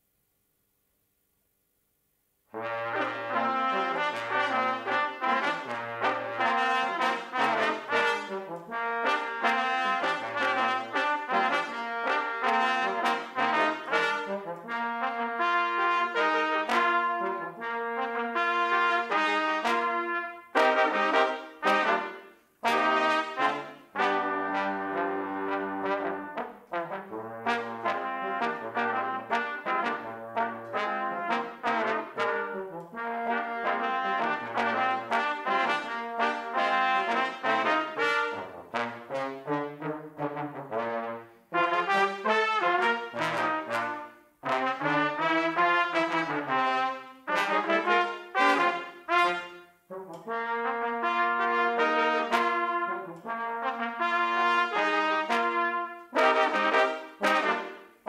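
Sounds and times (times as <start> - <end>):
brass quartet playing: 2.5 - 58.0.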